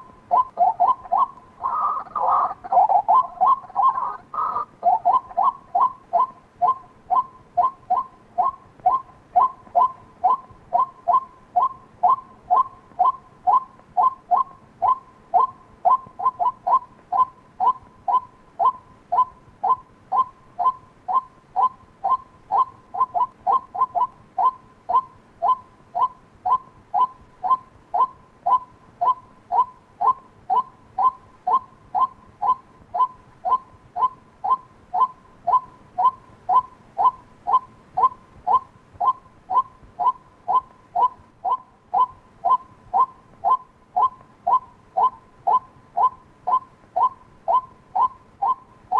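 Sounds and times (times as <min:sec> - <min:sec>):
waterhen clipped calls: 0:00.0 - 0:48.9.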